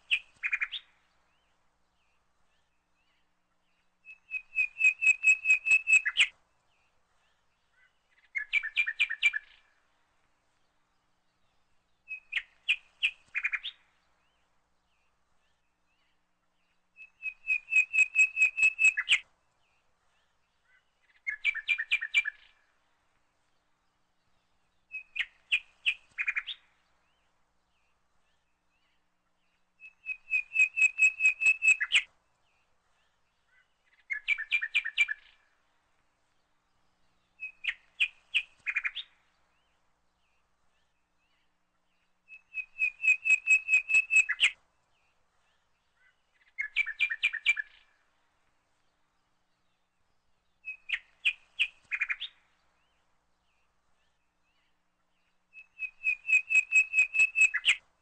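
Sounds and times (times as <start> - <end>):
bird song with rapid high chirps: 0.0 - 58.0.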